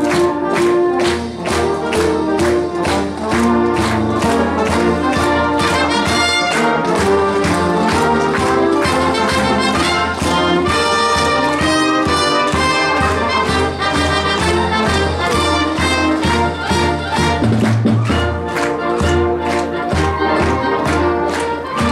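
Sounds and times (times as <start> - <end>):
snare and bass drums: 0.0 - 21.0
brass playing chords: 0.0 - 21.9.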